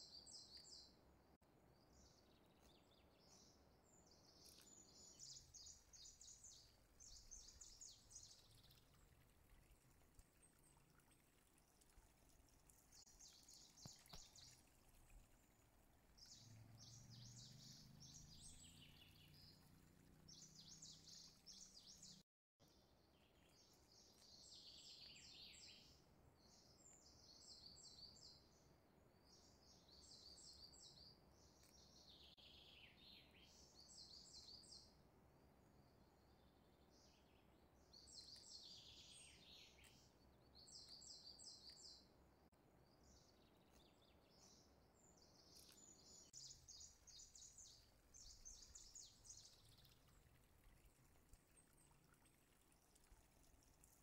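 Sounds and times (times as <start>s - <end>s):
faint birdsong chirps: 0.0s - 54.0s.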